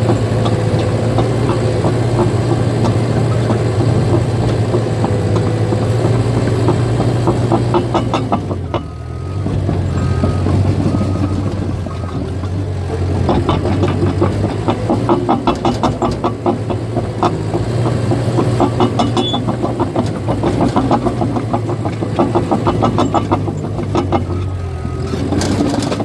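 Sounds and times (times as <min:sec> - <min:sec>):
bulldozer diesel engine running: 0:00.0 - 0:26.0
steel tracks clattering: 0:00.0 - 0:26.0.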